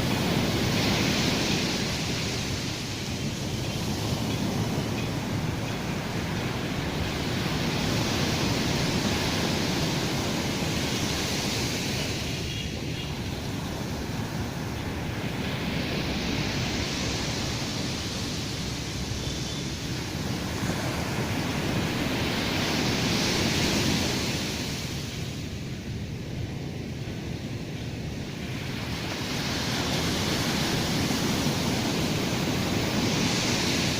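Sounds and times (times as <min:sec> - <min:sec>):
waves breaking on beach: 0:00.0 - 0:33.9.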